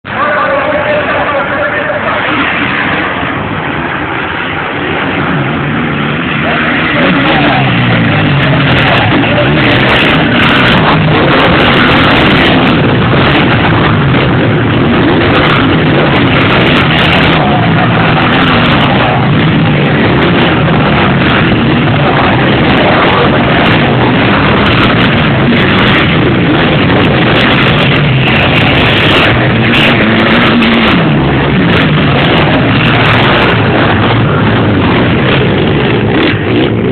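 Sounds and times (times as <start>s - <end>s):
motocross bike engines revving: 0.1s - 36.9s.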